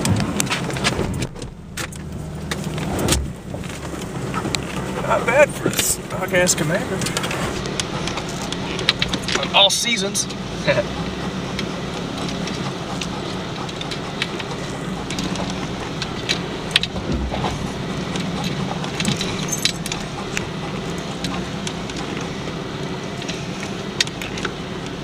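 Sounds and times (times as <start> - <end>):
engine and tyre drone: 0.0 - 25.0.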